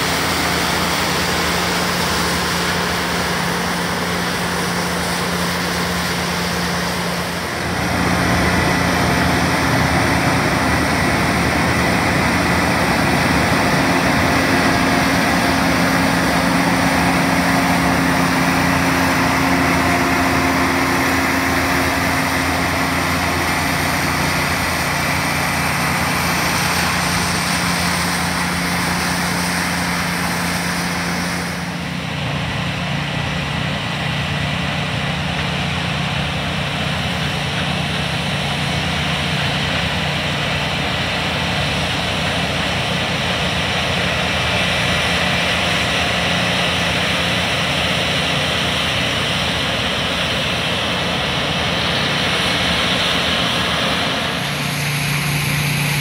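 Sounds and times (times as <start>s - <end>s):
combine harvester droning: 0.0s - 56.0s.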